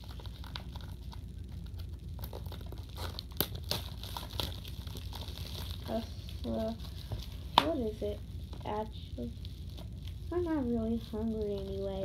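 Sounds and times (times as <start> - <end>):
low hum: 0.0 - 12.0
plastic packaging crinkling and tearing: 0.0 - 12.0.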